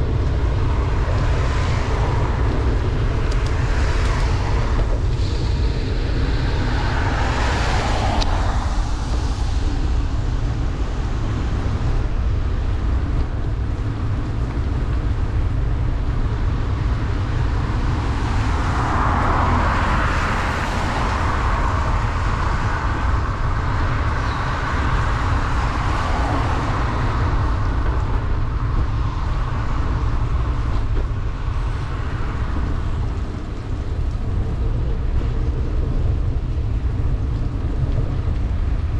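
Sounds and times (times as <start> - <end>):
rain: 0.0 - 38.9
wind rumble on microphone: 0.0 - 38.9.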